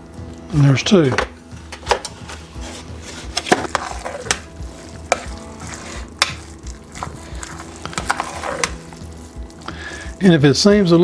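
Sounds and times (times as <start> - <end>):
spoon stirring thick batter: 2.1 - 10.9.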